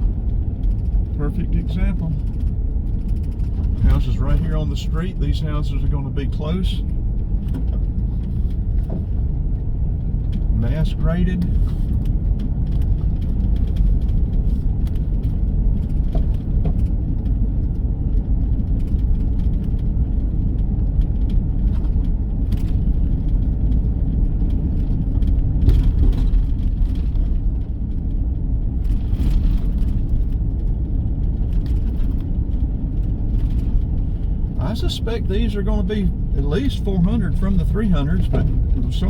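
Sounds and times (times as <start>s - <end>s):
faint rattles: 0.0s - 39.0s
road and engine rumble: 0.0s - 39.0s.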